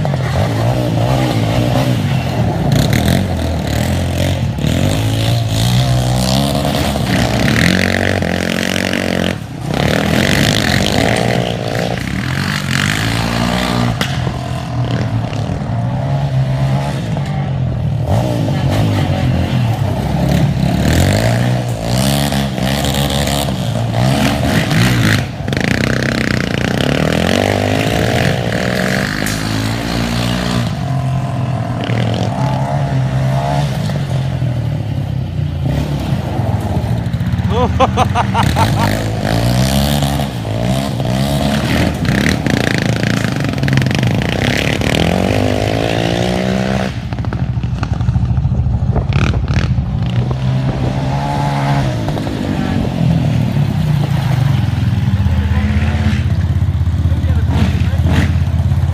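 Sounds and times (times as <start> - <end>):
atv engines revving: 0.0 - 58.9.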